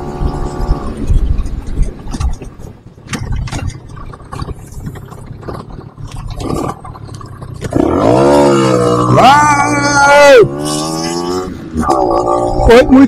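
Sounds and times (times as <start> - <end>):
moped engine and road rumble: 0.0 - 13.0.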